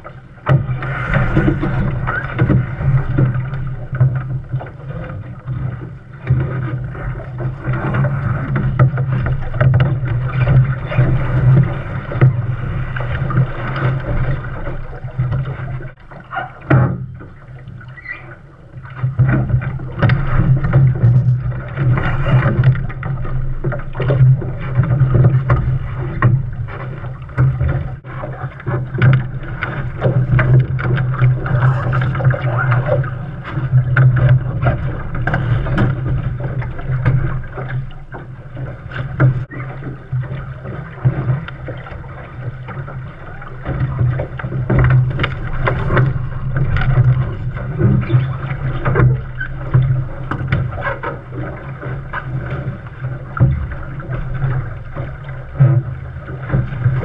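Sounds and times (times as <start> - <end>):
continuous low rumble: 0.0 - 57.0
water splashing along hull: 0.0 - 57.0.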